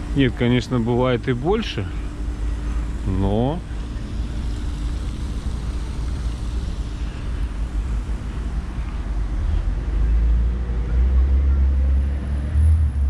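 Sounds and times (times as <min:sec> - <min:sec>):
motor vehicle engine rumbling: 0:00.0 - 0:13.0.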